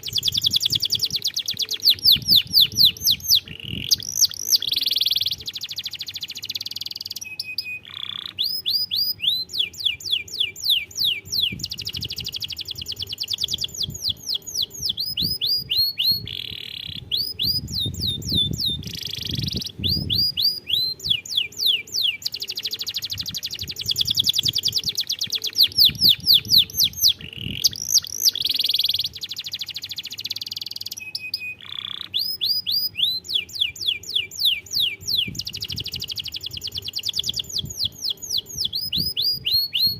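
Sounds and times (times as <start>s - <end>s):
canary singing with trills: 0.0s - 39.9s.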